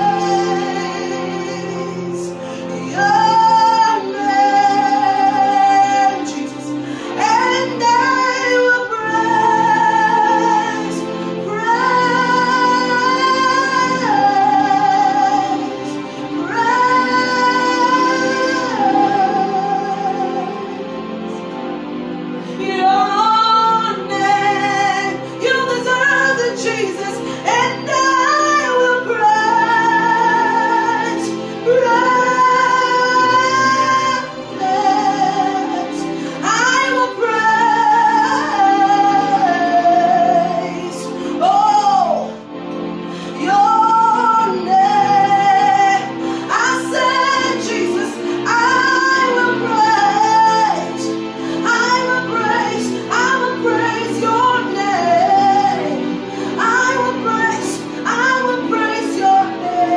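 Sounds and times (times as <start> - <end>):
woman singing worship song: 0.0 - 59.9.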